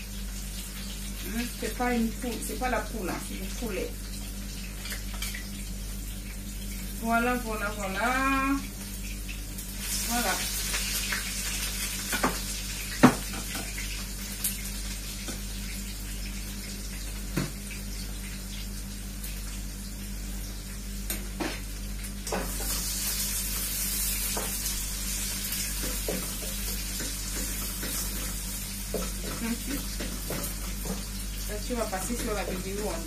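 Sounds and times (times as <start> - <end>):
chicken sizzling in a frying pan: 0.0 - 33.0.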